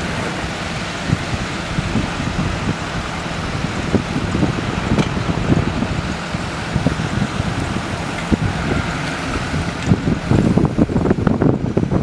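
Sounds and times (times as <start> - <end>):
street traffic hiss: 0.0 - 12.0
wind buffeting microphone: 0.0 - 12.0.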